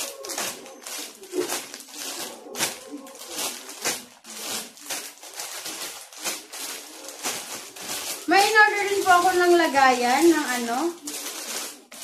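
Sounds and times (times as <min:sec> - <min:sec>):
plastic packs crinkling: 0:00.0 - 0:12.0.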